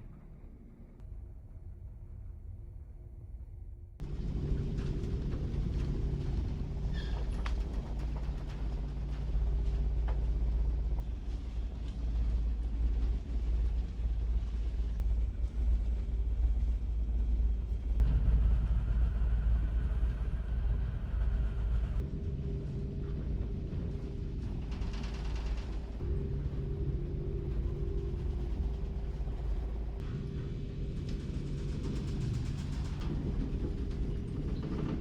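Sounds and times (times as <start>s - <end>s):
ship deep rumble: 4.0s - 35.0s
ship machinery hum: 4.0s - 35.0s.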